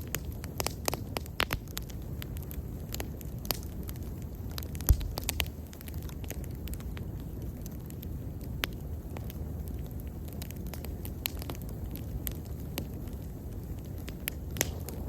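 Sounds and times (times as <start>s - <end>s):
bonfire crackling and popping: 0.0s - 15.0s
low fire rumble: 0.0s - 15.0s.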